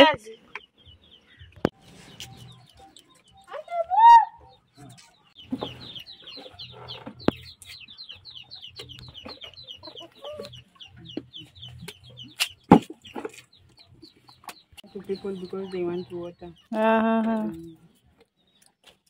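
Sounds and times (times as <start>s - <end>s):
poultry chirping: 0.0s - 19.0s.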